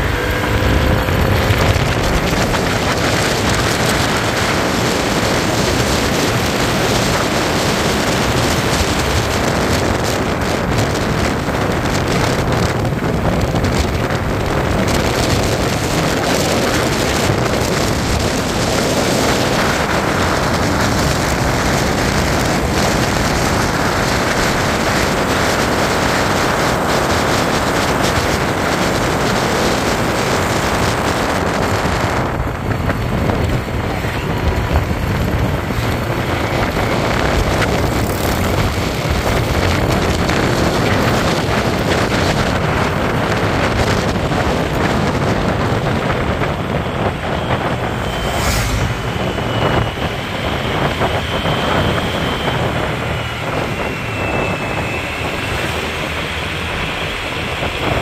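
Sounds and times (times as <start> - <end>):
motorbike road noise: 0.0 - 58.0
wind rushing over microphone: 0.0 - 58.0.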